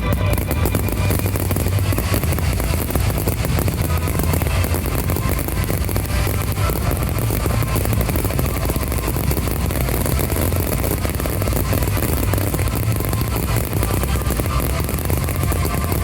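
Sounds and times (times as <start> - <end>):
fireworks booming: 0.0 - 16.0
fireworks crackle: 0.0 - 16.0.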